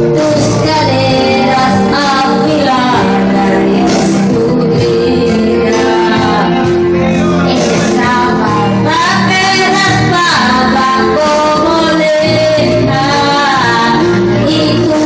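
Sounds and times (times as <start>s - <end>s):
backing music: 0.0s - 15.0s
woman singing into microphone: 0.0s - 15.0s.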